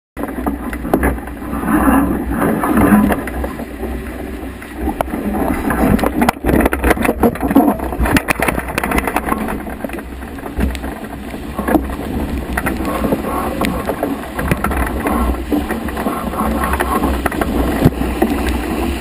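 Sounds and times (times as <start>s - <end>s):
water rushing past hull: 0.2s - 19.0s
wind buffeting microphone: 0.3s - 19.0s.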